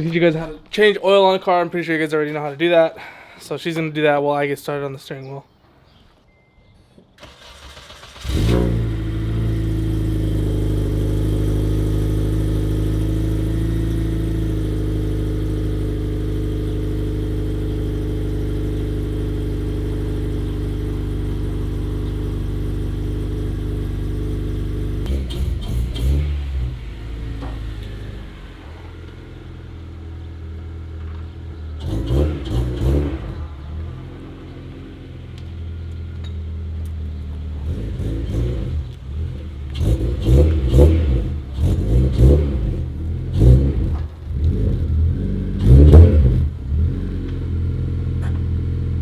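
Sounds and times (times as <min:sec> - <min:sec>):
car engine idling and revving: 0:07.2 - 0:49.0.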